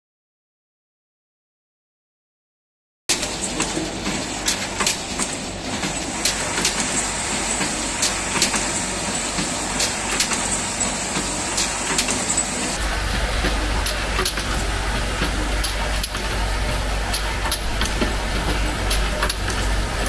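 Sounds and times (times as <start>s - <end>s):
bottling machine running: 3.1s - 20.0s
sharp mechanical clicks: 3.1s - 20.0s.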